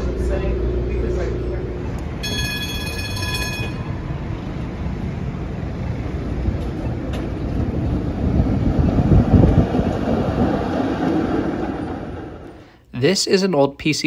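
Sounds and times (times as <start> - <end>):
streetcar wheels rumbling: 0.0 - 12.7.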